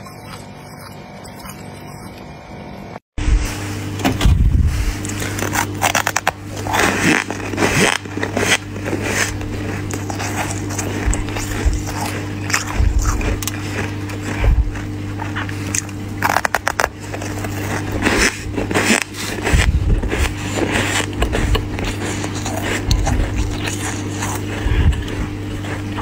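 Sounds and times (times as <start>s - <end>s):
frost crunching and scraping: 0.0s - 2.6s, 3.5s - 26.0s
steady low hum: 0.0s - 26.0s.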